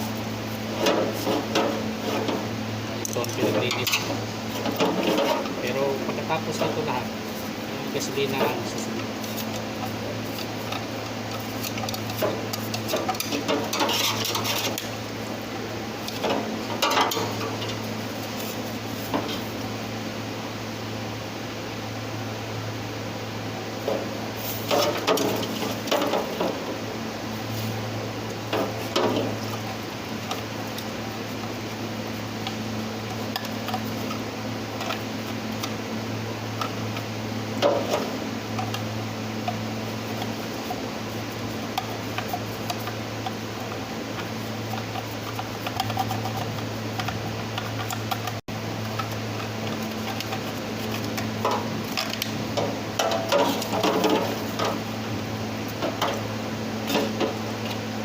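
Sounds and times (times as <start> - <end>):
low electric hum: 0.0 - 58.0.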